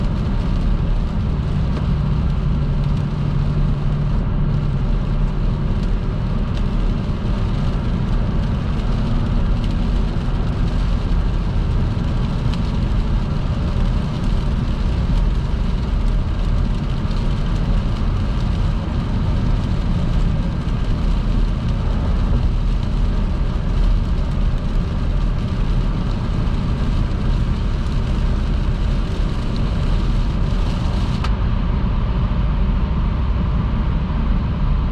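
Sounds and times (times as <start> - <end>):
tyres hissing on wet road: 0.0 - 31.3
road and engine noise: 0.0 - 34.9.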